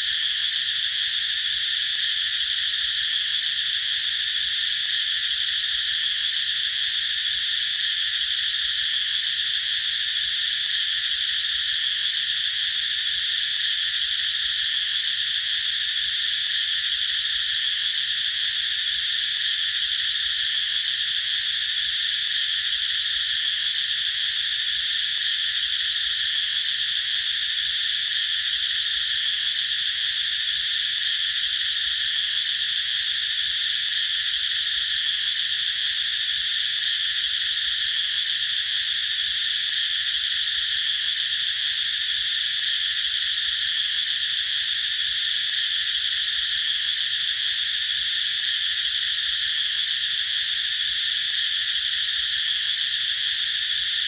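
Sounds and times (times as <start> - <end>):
cicadas singing: 0.0 - 54.0.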